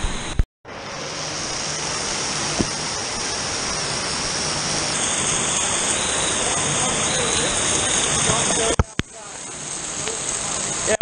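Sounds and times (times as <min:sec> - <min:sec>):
water rushing and pouring: 0:00.7 - 0:11.0.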